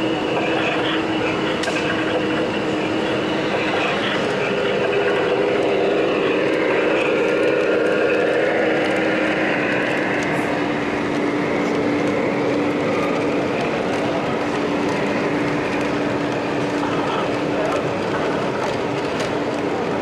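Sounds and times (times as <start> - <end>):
constant low hum: 0.0 - 19.7
model train rolling rumble: 0.0 - 20.0.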